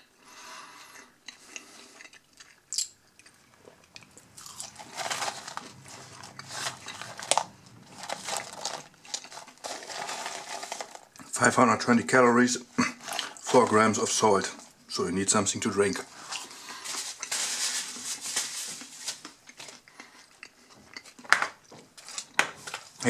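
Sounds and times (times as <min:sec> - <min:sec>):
crunchy chewing of fries: 0:00.6 - 0:11.3, 0:13.0 - 0:14.7, 0:16.1 - 0:23.0.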